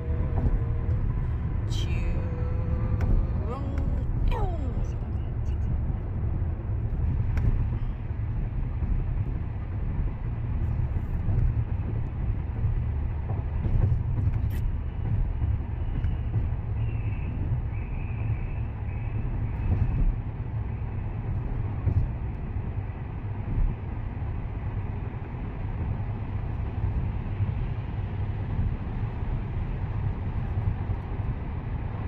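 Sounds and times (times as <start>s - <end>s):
car driving through tunnel: 0.0s - 32.0s.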